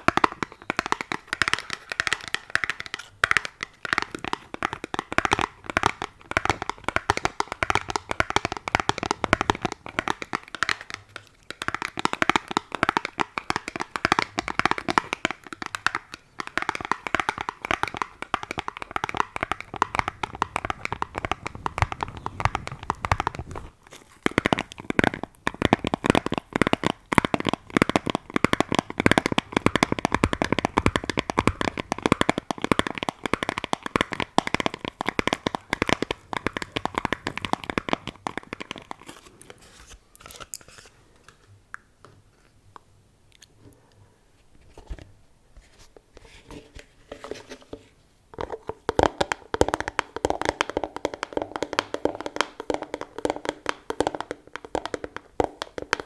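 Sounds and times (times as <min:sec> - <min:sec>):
fingers tapping on objects: 0:00.0 - 0:39.6, 0:48.4 - 0:56.0.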